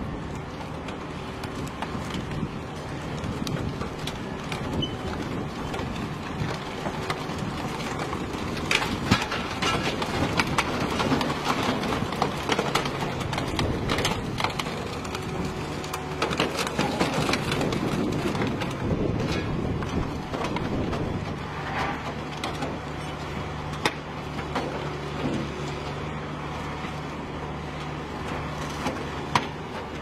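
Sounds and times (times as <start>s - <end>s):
car bodies cracking and crunching: 0.0s - 30.0s.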